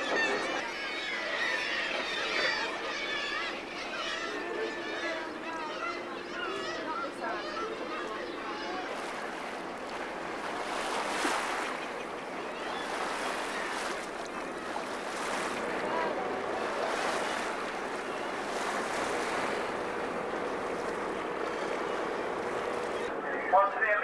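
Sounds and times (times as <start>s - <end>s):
sea water washing: 0.0s - 24.0s
wind: 0.0s - 24.0s.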